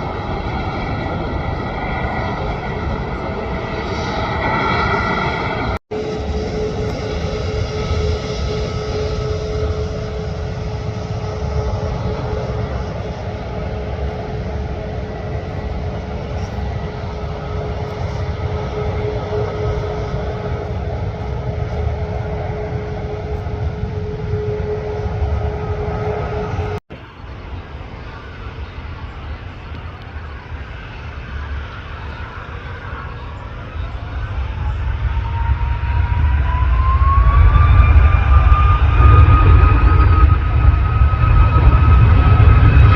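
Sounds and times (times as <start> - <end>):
engine whine: 0.0 - 42.9
jet engines rumbling: 0.0 - 42.9.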